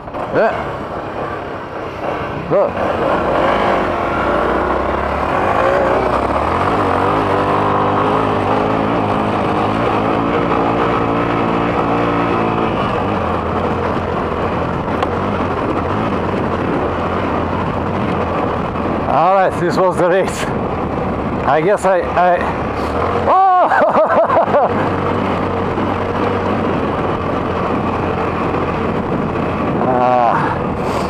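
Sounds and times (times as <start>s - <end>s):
motorcycle engine accelerating: 0.0s - 31.0s
wind rush on microphone: 0.0s - 31.0s.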